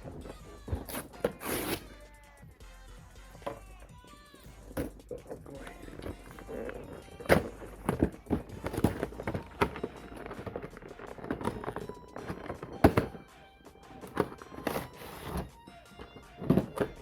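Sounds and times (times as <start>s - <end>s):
cardboard rustling: 0.0s - 2.0s, 4.4s - 17.0s
quiet background music: 0.0s - 17.0s.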